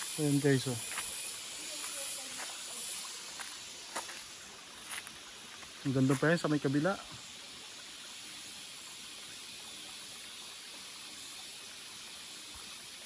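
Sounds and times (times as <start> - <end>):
forest background hiss: 0.0 - 13.0.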